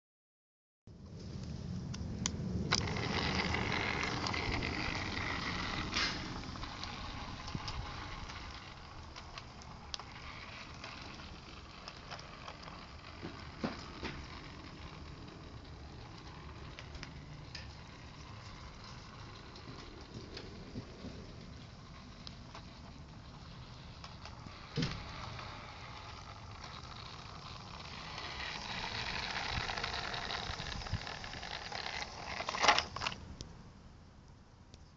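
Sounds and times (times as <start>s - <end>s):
wheels clicking on track: 1.9s - 33.2s
electric motor hum: 2.1s - 33.2s
model train rattling through snow: 2.7s - 33.2s.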